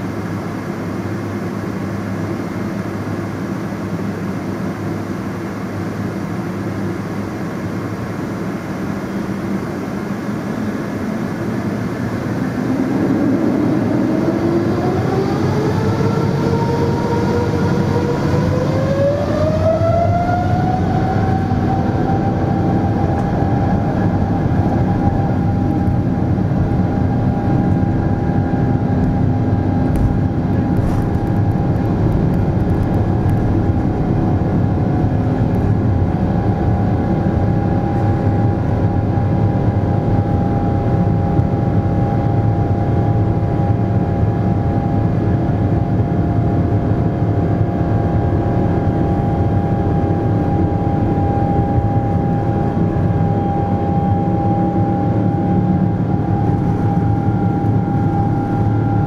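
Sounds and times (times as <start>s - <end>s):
jet engine whine: 0.0s - 59.0s
loud rumble of aircraft: 0.0s - 59.0s.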